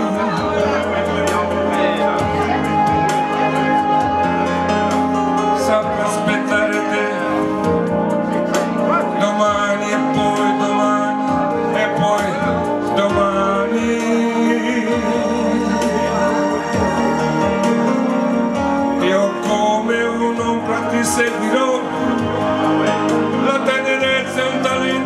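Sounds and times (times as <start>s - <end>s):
instrumental pop music through pa: 0.0s - 25.0s.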